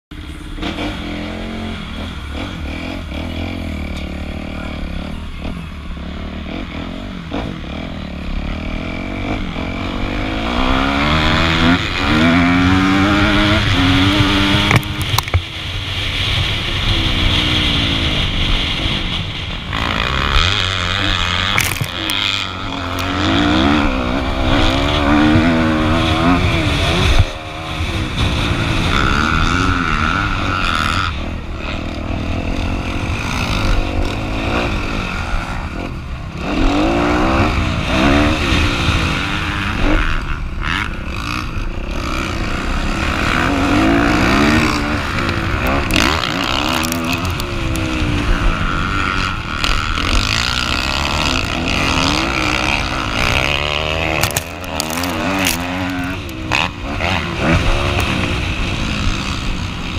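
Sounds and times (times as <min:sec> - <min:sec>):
motocross engine revving: 0:00.1 - 0:59.9.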